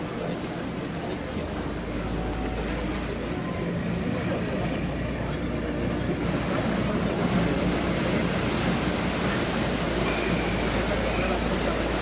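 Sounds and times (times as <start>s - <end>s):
engine drone: 0.0s - 12.0s
water washing: 0.0s - 12.0s.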